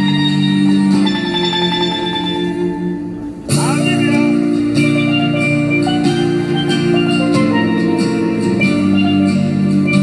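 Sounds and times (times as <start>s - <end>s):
steel pan melody: 0.0s - 10.0s.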